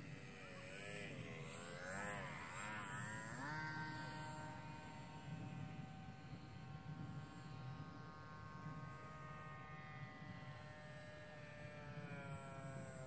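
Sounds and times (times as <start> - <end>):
model airplane motor whine: 0.0 - 13.0.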